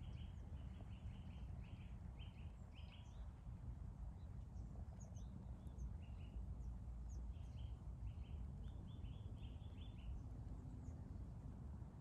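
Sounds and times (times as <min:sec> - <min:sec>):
small songbirds chirping: 0:00.0 - 0:11.2.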